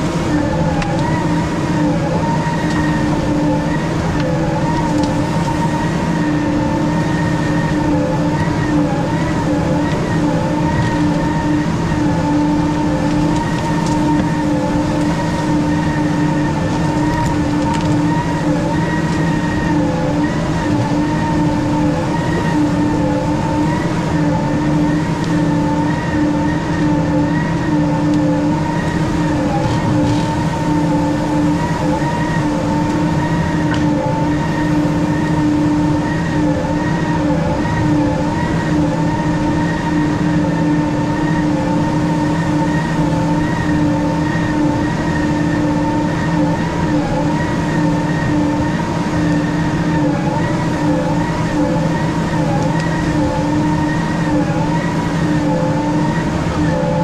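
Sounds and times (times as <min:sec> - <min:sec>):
diesel engine droning: 0:00.0 - 0:57.0
high whine wavering in pitch: 0:00.0 - 0:57.0.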